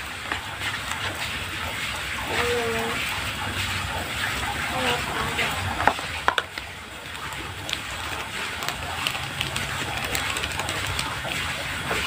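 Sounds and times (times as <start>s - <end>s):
hands kneading damp mix: 0.0s - 12.0s.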